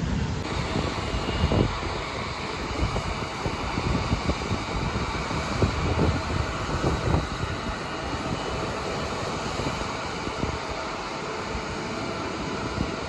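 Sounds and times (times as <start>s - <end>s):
distant jet engines rumbling: 0.0s - 13.0s
wind buffeting microphone: 0.0s - 13.0s.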